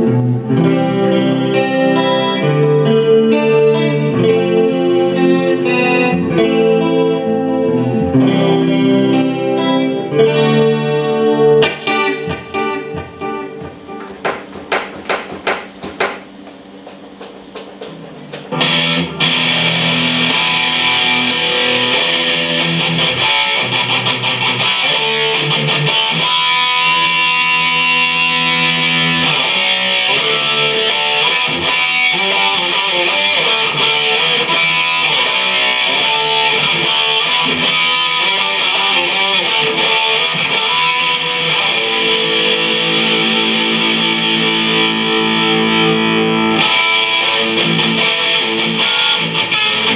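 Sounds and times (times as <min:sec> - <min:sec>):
distorted electric guitar riffs: 0:00.0 - 0:15.0, 0:15.6 - 0:49.9.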